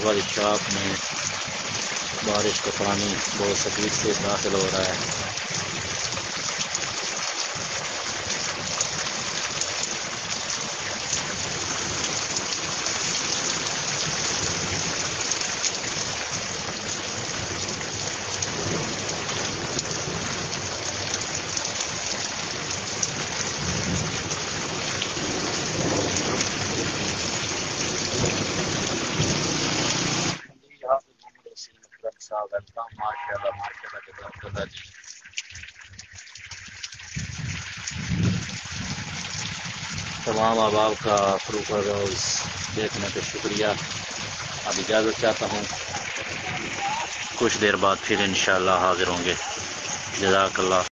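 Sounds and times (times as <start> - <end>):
heavy rain on standing water: 0.0 - 31.0, 32.3 - 50.9.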